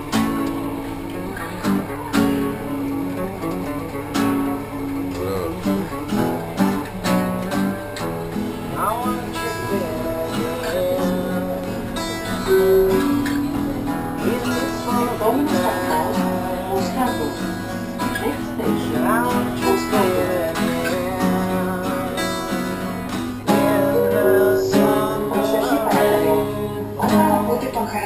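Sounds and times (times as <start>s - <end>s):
two acoustic guitars playing: 0.0s - 28.0s.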